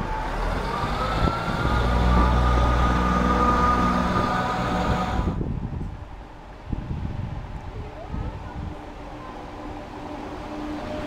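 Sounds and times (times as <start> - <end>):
train diesel engine drone: 0.0 - 11.0.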